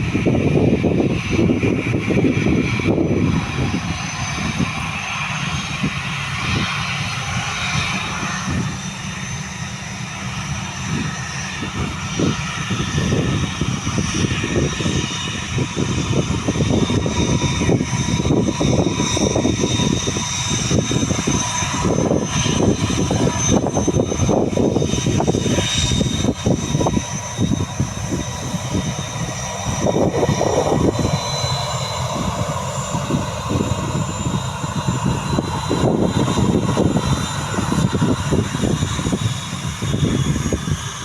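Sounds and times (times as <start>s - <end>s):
jet engines roaring with high whine: 0.0s - 41.0s.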